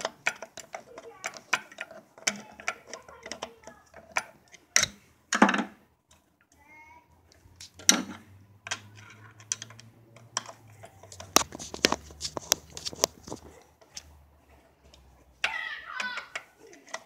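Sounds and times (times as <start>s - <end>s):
clicks and taps of metal parts: 0.0s - 6.6s, 7.3s - 14.1s, 15.4s - 17.0s.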